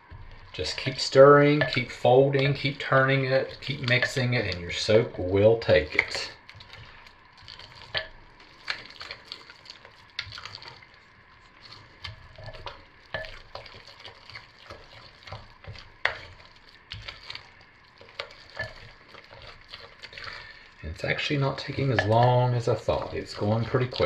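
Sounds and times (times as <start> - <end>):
spatula stirring thick soap: 0.0 - 24.0.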